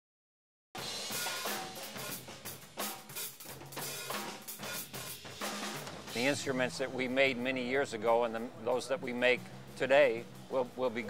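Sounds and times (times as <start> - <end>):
drum kit playing: 0.8 - 11.0.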